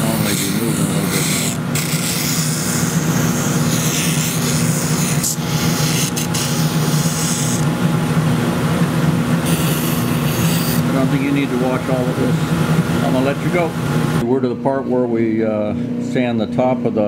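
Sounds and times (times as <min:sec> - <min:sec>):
drum sander motor hum: 0:00.0 - 0:14.2.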